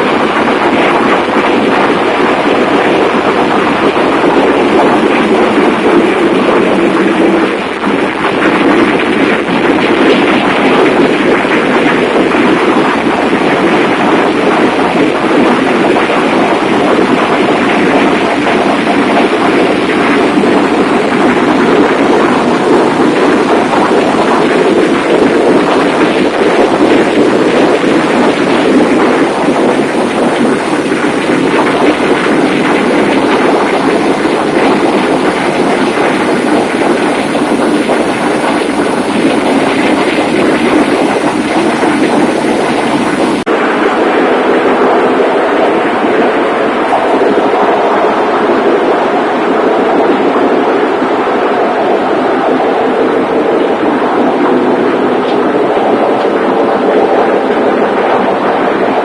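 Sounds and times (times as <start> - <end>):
engine room machinery roar: 0.0 - 59.0.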